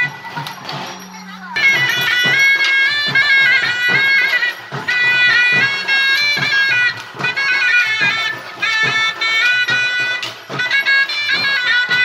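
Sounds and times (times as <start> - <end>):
drum strokes: 0.0 - 12.0
shrill reed pipe melody: 0.0 - 12.0.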